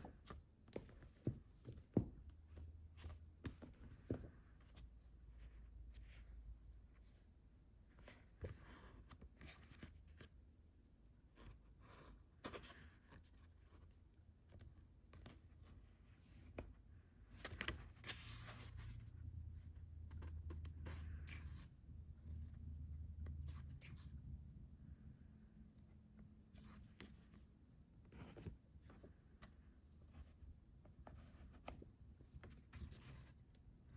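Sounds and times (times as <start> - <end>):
soft taps and scrapes of books: 0.0 - 10.4, 11.2 - 33.9.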